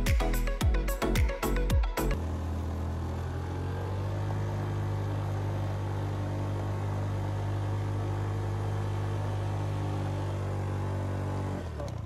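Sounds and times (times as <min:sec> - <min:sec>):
motorbike engine running steadily: 0:00.0 - 0:12.0.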